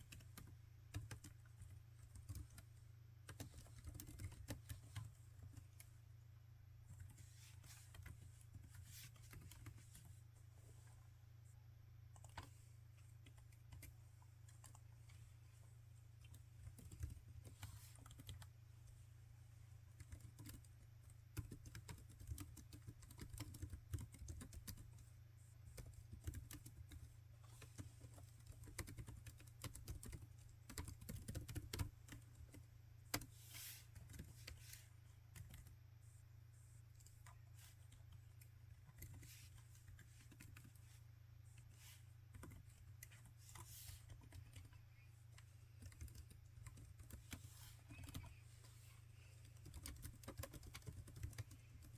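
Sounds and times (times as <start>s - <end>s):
laptop keyboard typing: 0.0s - 5.9s, 6.9s - 10.0s, 12.1s - 12.6s, 13.2s - 15.2s, 16.2s - 18.5s, 20.0s - 35.8s, 36.6s - 51.9s.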